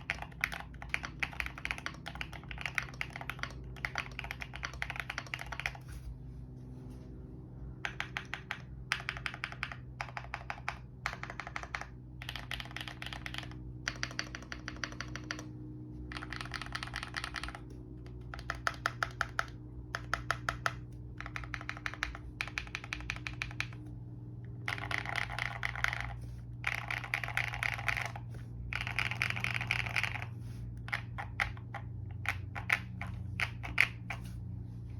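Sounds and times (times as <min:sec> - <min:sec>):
mechanical keyboard typing: 0:00.0 - 0:05.9, 0:07.8 - 0:23.9, 0:24.5 - 0:34.3.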